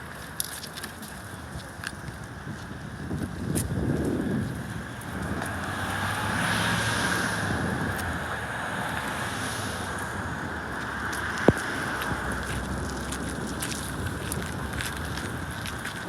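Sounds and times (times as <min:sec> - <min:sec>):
outdoor background noise: 0:00.0 - 0:16.0
wind buffeting microphone: 0:00.0 - 0:16.0.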